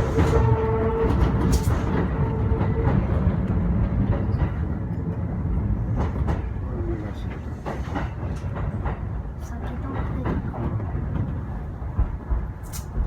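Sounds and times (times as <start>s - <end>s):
steady train whine: 0.0s - 13.0s
train wheels rumbling on rail: 0.0s - 13.0s.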